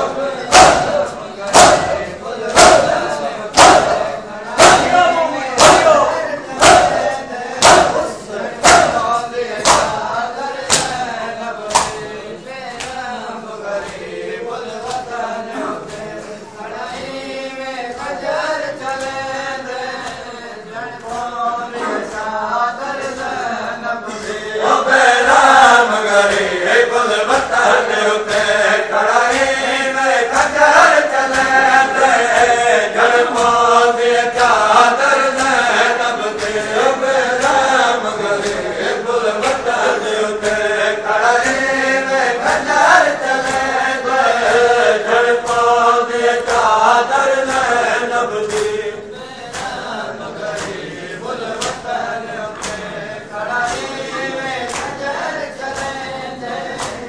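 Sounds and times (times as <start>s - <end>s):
men chanting a lament: 0.0s - 57.0s
rhythmic chest-beating slaps: 0.0s - 57.0s.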